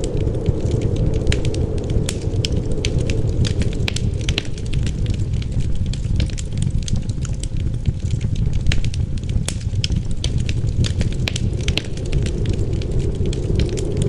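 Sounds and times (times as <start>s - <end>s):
low rumble of wind: 0.0s - 14.0s
wood fire crackling and popping: 0.0s - 14.0s.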